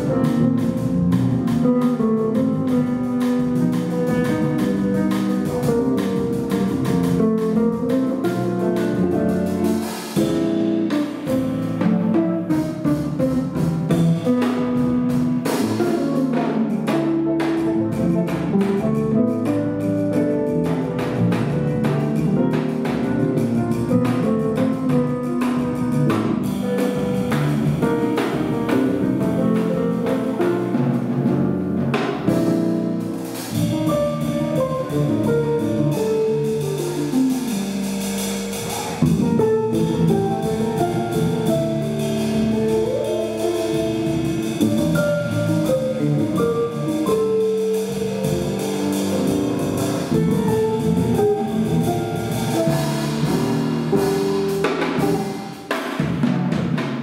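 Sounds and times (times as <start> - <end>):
drum kit: 0.0 - 57.0
jazz quartet playing: 0.0 - 57.0.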